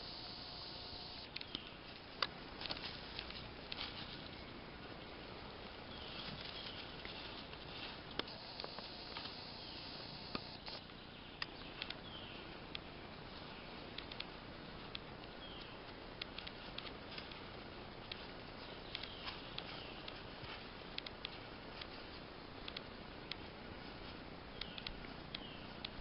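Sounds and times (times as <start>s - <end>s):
steady hiss: 0.0s - 26.0s
light ticks and pattering: 1.3s - 4.6s, 5.6s - 26.0s.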